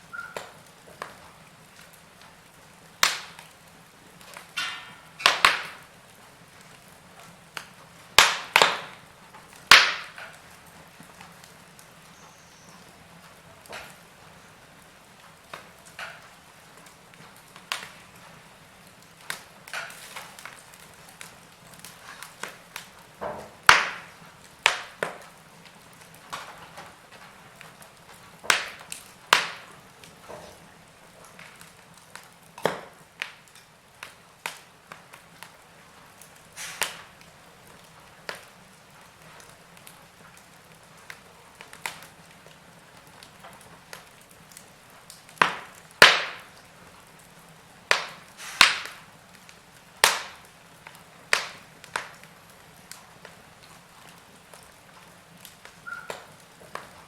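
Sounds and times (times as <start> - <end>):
burning logs popping and snapping: 0.0 - 57.0
fire hissing: 0.0 - 57.0.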